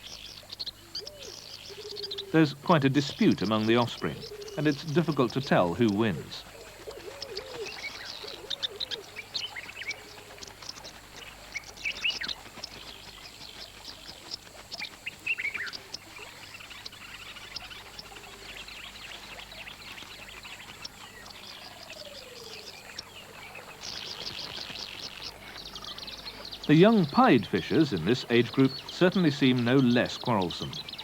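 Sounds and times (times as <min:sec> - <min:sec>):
faint outdoor ambience: 0:00.0 - 0:31.0
small birds chirping: 0:00.0 - 0:31.0.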